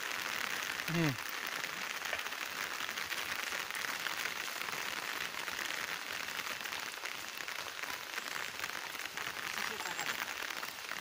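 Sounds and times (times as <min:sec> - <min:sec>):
steady hissing with fine crackle: 0:00.0 - 0:11.0.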